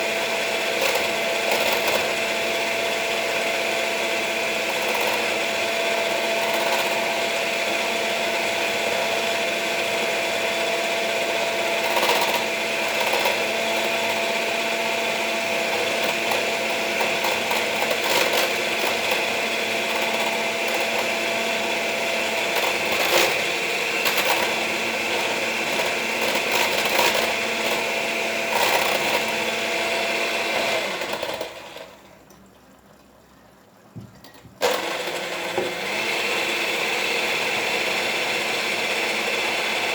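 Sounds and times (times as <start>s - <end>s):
electric mixer whining: 0.0s - 32.1s, 34.6s - 39.9s.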